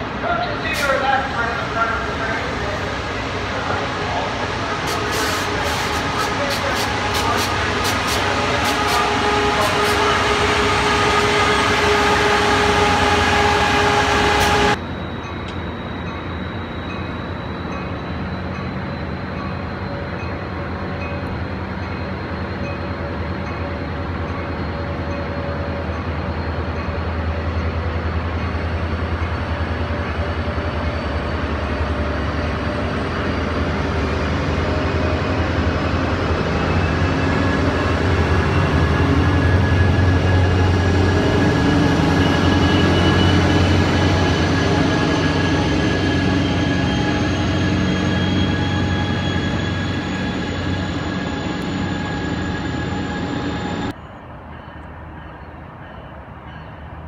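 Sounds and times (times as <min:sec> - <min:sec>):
diesel locomotive running: 0:00.0 - 0:57.0
passenger cars rolling on rails: 0:00.0 - 0:57.0.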